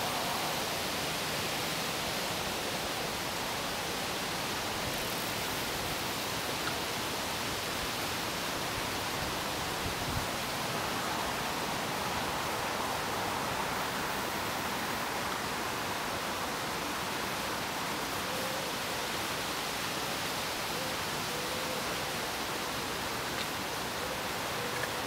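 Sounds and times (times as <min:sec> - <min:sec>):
steady outdoor noise: 0:00.0 - 0:25.0.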